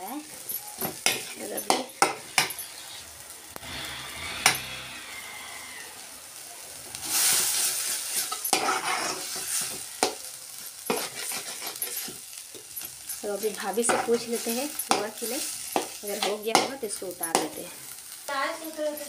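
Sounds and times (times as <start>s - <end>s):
greens sizzling in oil: 0.0s - 19.0s.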